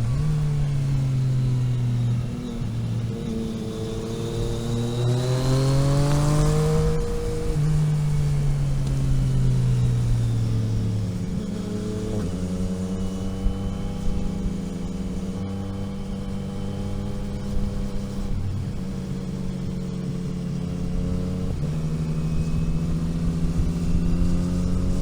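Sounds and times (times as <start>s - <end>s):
car engine revving: 0.0s - 25.0s
road noise: 0.0s - 25.0s.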